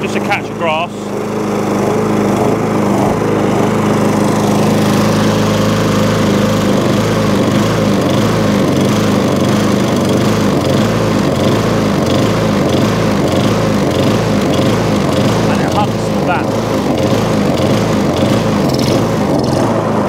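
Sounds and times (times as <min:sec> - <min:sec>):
lawnmower engine running: 0:00.0 - 0:20.0.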